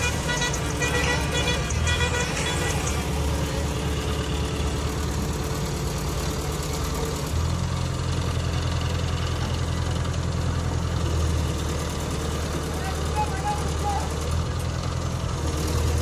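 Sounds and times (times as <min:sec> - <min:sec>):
crane diesel engine running: 0:00.0 - 0:16.0.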